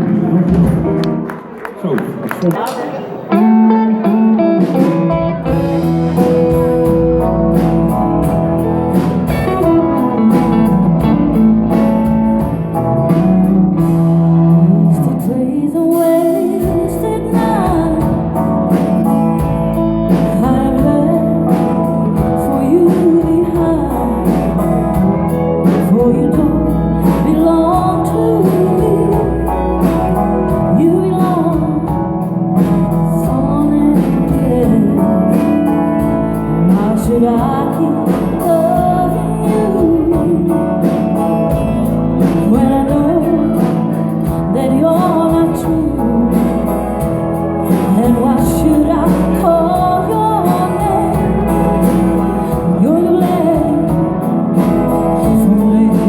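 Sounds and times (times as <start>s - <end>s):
live country band playing: 0.0s - 2.4s, 3.0s - 56.0s.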